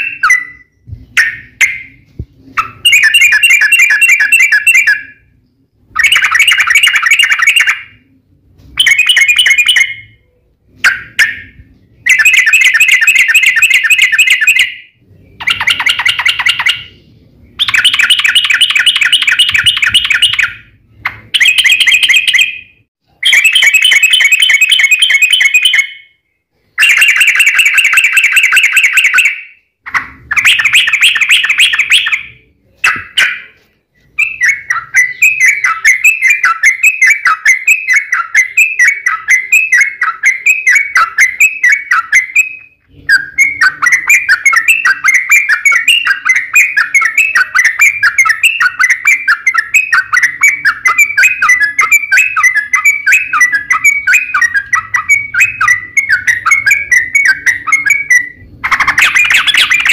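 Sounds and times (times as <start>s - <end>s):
bird singing chattering trills: 8.8s - 26.2s, 26.8s - 59.9s.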